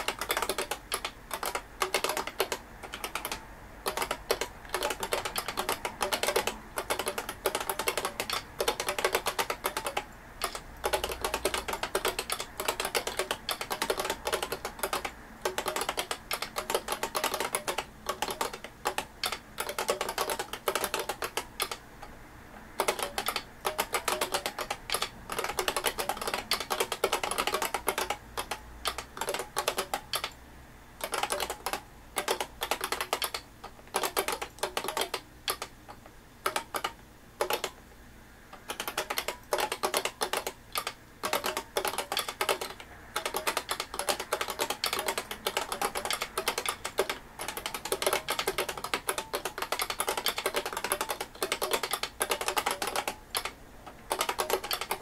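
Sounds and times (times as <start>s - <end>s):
keyboard key clicks: 0.0s - 21.8s, 22.8s - 30.4s, 31.0s - 35.7s, 36.4s - 37.8s, 38.5s - 55.0s.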